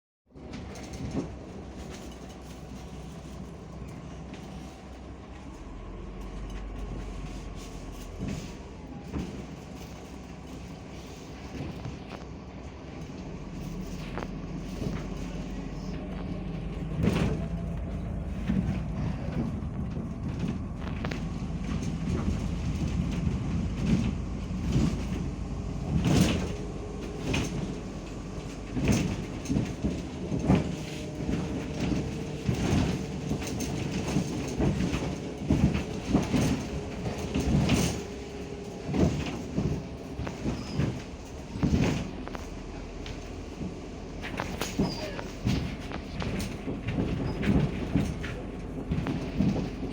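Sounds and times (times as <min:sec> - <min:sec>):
bus body rattling and knocking: 0:00.3 - 0:49.9
bus engine drone: 0:00.3 - 0:49.9.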